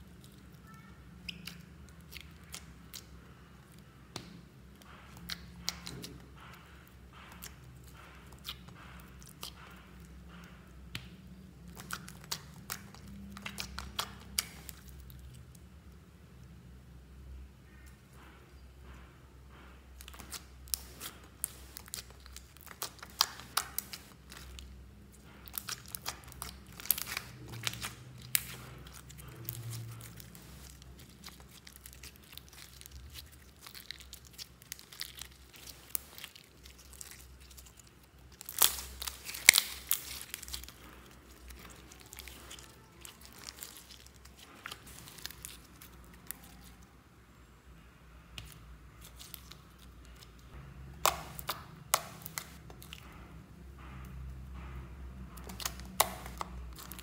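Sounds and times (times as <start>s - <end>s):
slime crackling and popping: 0.0s - 6.6s, 7.2s - 15.6s, 20.0s - 46.9s, 48.4s - 53.1s, 55.4s - 57.0s.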